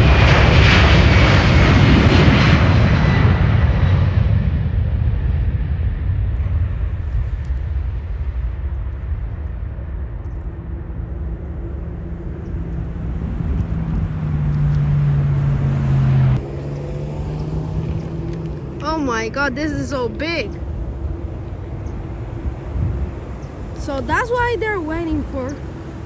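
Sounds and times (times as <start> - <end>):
jet engines rumbling: 0.0 - 26.0
low hum: 0.0 - 26.0.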